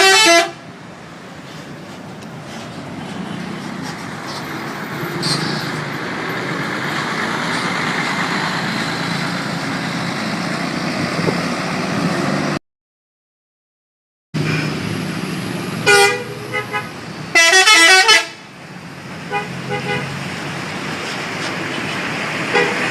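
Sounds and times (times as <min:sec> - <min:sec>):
bus engine passing: 0:00.0 - 0:12.6, 0:14.4 - 0:22.9
road noise: 0:00.0 - 0:12.6, 0:14.4 - 0:22.9.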